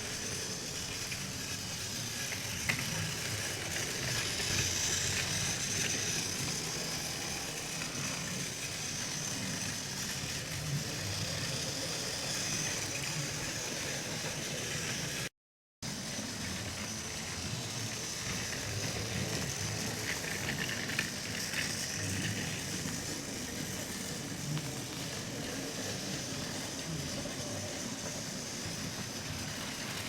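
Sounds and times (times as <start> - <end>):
toy train motor whir: 0.0 - 15.3, 15.9 - 30.0
wheels rattling over plastic track: 0.0 - 15.3, 16.0 - 30.0.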